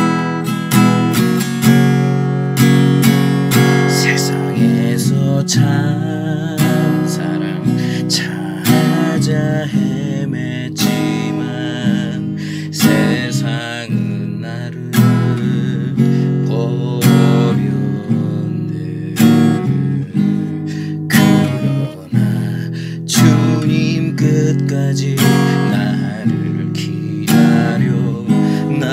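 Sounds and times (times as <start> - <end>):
acoustic guitar strumming chords: 0.0 - 28.9.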